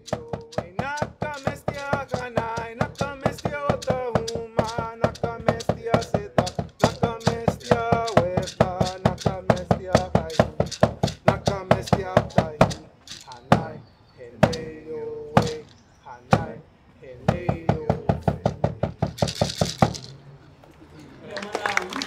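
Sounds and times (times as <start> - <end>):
steady drumbeat: 0.0 - 13.8, 14.4 - 15.7, 16.3 - 16.6, 17.2 - 20.1.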